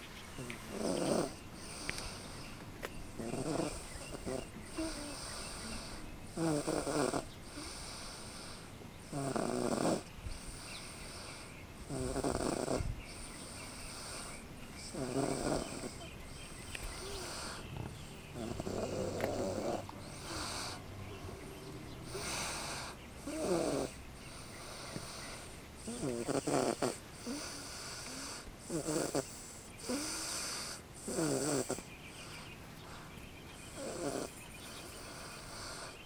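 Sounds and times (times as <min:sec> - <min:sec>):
baby snoring: 0:00.4 - 0:02.4, 0:03.2 - 0:21.0, 0:22.0 - 0:31.9, 0:33.7 - 0:36.0.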